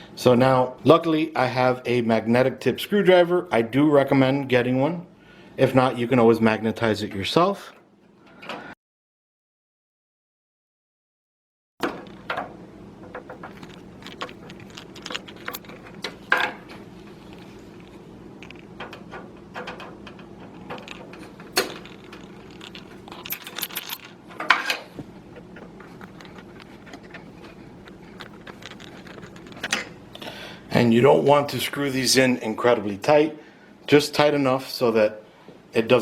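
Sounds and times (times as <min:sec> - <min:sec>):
faint steady hum: 0:00.0 - 0:08.7, 0:11.8 - 0:36.0.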